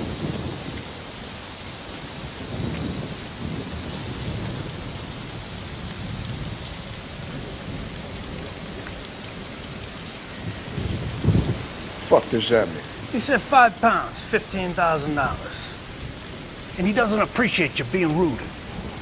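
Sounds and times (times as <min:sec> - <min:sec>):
rain hiss: 0:00.0 - 0:19.0
thunder rumbling: 0:02.2 - 0:19.0.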